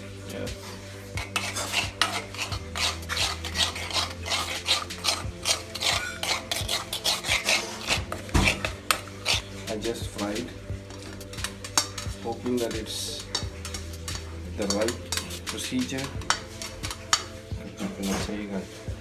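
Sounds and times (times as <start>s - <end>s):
spoon scraping sauce in pan: 1.0s - 18.2s.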